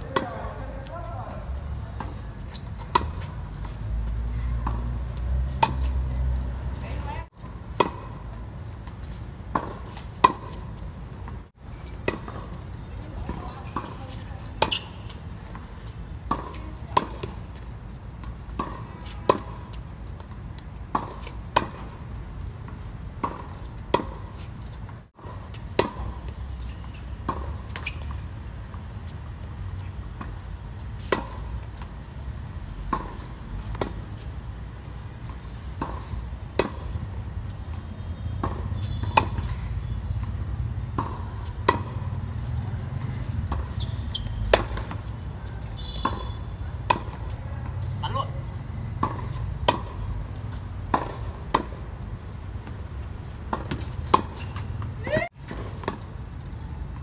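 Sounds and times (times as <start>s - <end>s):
tennis balls struck on rackets: 0.0s - 28.9s, 29.6s - 32.0s, 32.8s - 34.3s, 35.3s - 57.0s.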